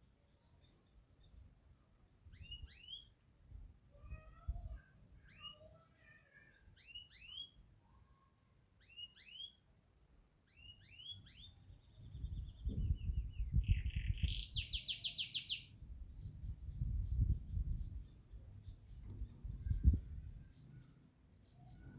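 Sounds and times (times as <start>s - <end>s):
canary singing chirps and trills: 0.0s - 3.2s, 4.0s - 9.8s, 10.4s - 21.9s.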